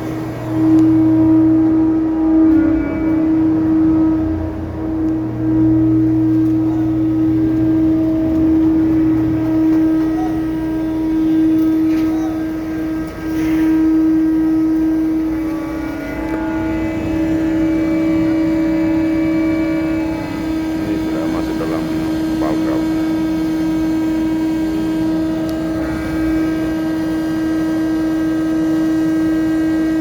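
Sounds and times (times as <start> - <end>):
crane machinery humming: 0.0 - 30.0.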